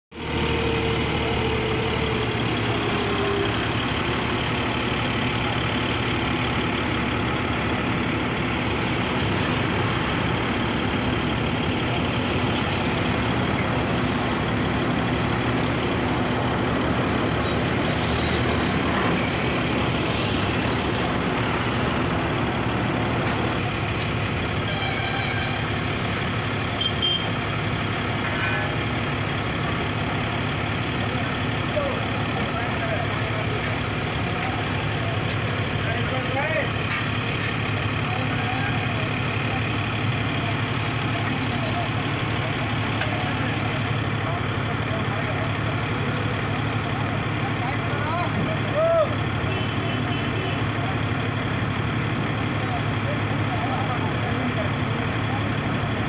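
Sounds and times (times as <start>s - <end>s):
diesel crane engine running: 0.1s - 56.0s.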